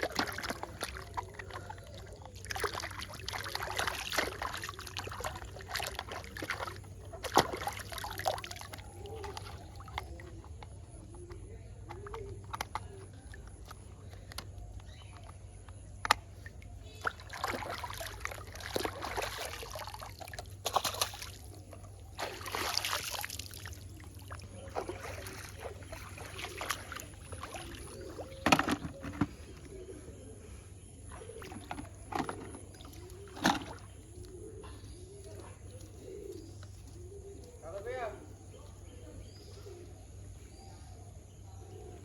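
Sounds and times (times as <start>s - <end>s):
water sloshing and splashing: 0.0s - 30.1s, 30.8s - 37.6s.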